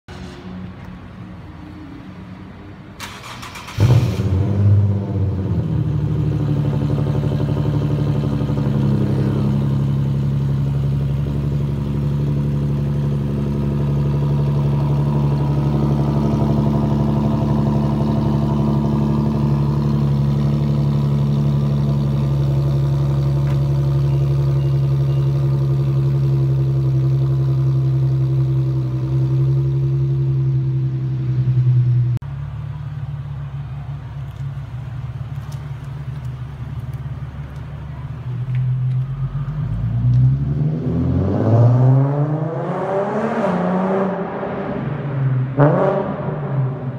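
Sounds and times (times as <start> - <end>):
car engine revving and idling: 3.0 - 46.9.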